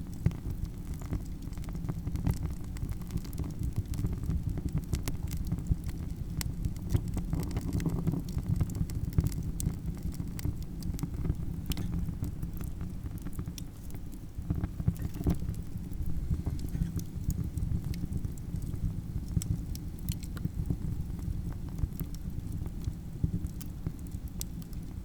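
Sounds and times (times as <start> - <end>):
low rumble of burning fire: 0.0 - 25.0
campfire pops and snaps: 0.1 - 25.0.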